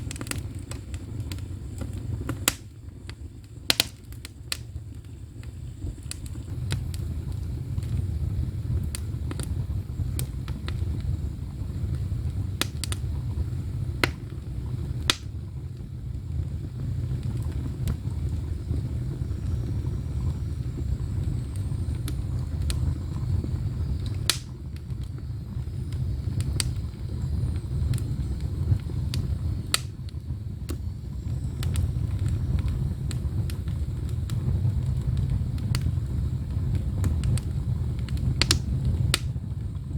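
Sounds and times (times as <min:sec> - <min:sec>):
fire rumbling: 0:00.0 - 0:39.9
firewood crackling and popping: 0:00.0 - 0:39.9.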